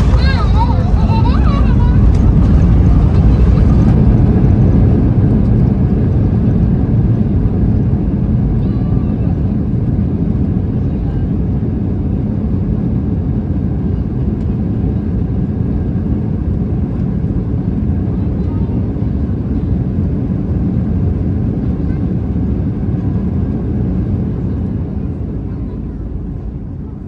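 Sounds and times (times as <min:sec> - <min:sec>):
jet engine and rolling rumble: 0:00.0 - 0:27.0.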